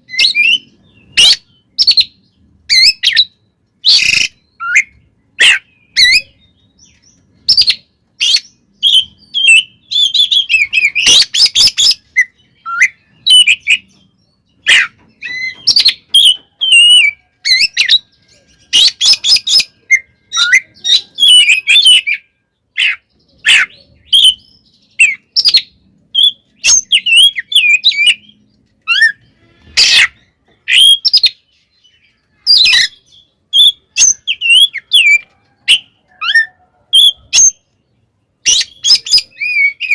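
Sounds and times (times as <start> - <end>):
bird singing whistled phrases: 0.0 - 2.1, 2.7 - 6.6, 7.5 - 13.9, 14.7 - 29.2, 32.4 - 37.6, 38.4 - 39.9.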